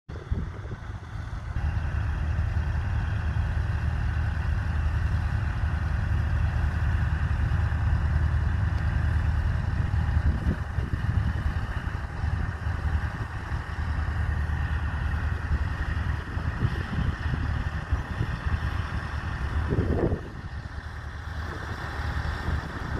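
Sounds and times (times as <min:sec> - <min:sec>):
tractor diesel engine running: 0:00.1 - 0:22.9.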